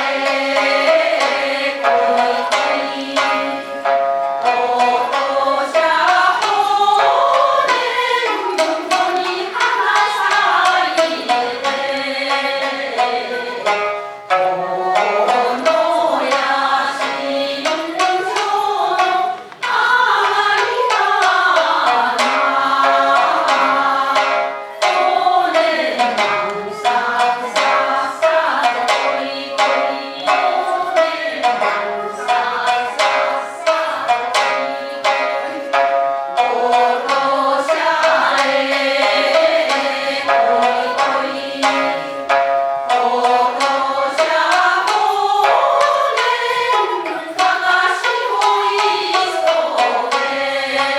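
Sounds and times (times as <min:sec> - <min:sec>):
group singing folk song: 0:00.0 - 0:50.9
plucked shamisen notes: 0:00.0 - 0:50.9.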